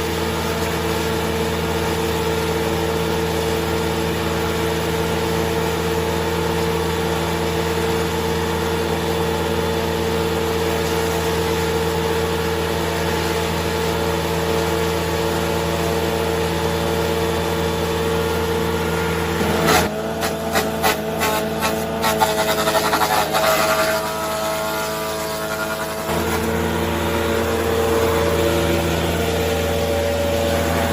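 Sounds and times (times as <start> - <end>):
wood chipper running: 0.0 - 30.9.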